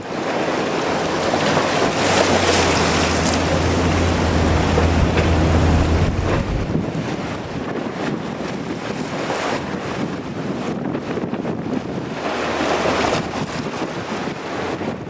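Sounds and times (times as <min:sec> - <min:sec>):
strong wind buffeting microphone: 0:00.8 - 0:15.0.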